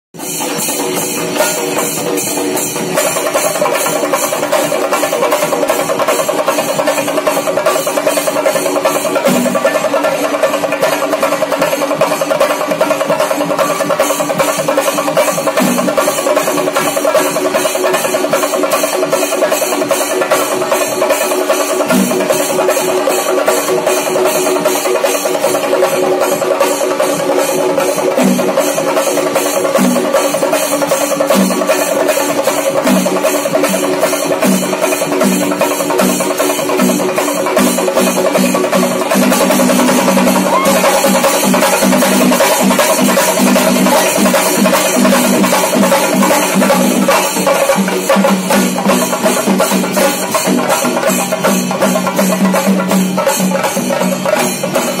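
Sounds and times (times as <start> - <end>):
drum ensemble beaten with sticks: 0.2 - 55.0.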